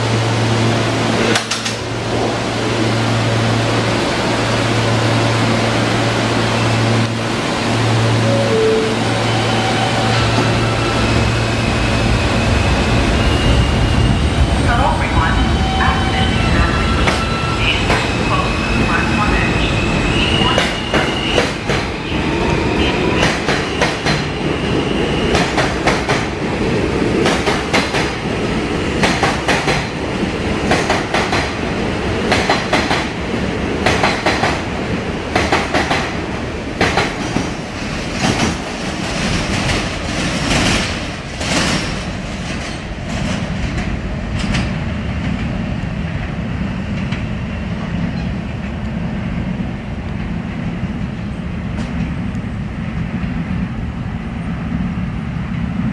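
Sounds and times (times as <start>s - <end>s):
subway train rumble: 0.0s - 55.9s.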